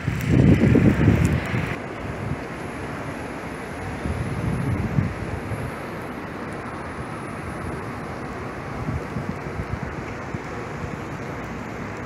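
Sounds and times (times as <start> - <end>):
blizzard street noise: 0.0 - 12.0
wind buffeting microphone: 0.0 - 12.0.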